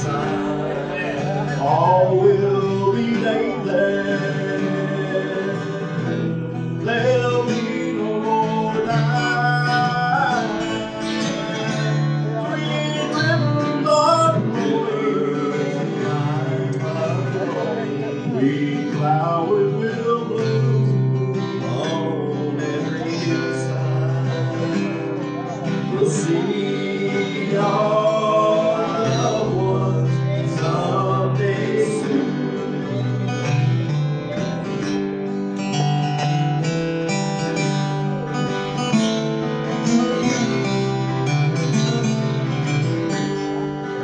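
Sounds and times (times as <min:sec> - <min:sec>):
country gospel with acoustic guitar: 0:00.0 - 0:44.0.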